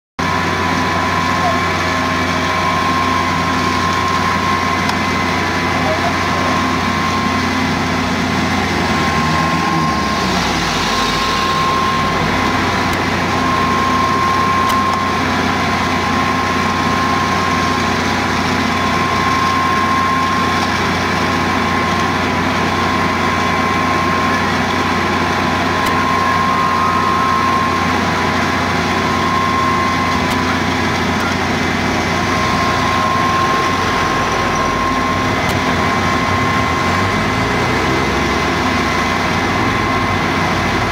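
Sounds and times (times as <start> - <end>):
diesel engines running: 0.2 - 40.9
pump whine: 0.2 - 40.9.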